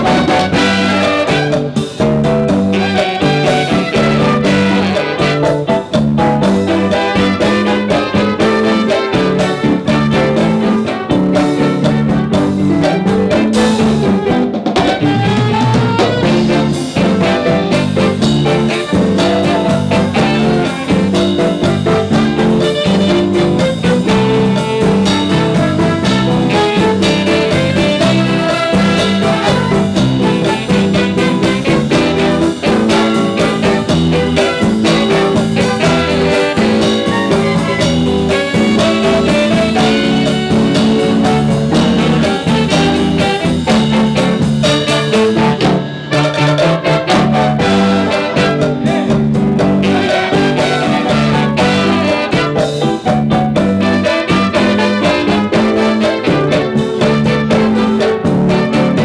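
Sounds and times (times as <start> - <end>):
latin jazz instrumental: 0.0 - 59.0.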